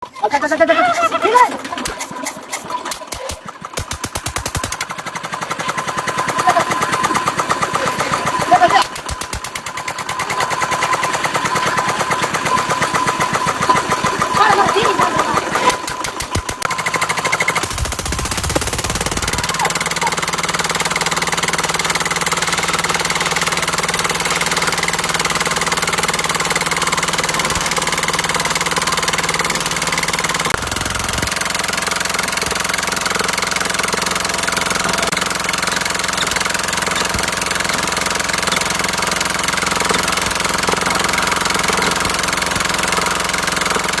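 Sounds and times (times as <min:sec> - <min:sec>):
diesel engine running: 0:00.2 - 0:44.0.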